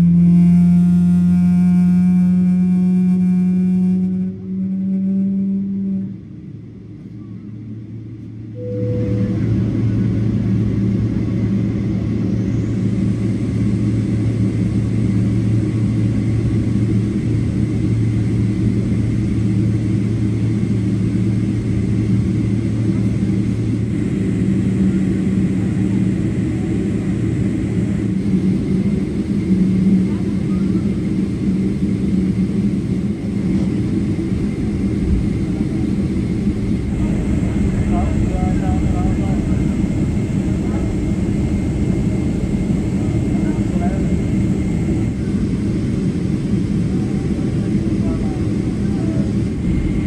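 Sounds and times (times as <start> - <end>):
faint high engine whine: 0.0 - 50.0
jet engines rumbling at taxi power: 0.0 - 50.0.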